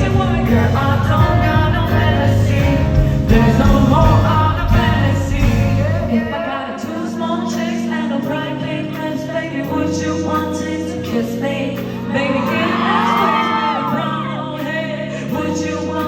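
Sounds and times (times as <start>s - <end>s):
pop song with singing: 0.0s - 16.0s.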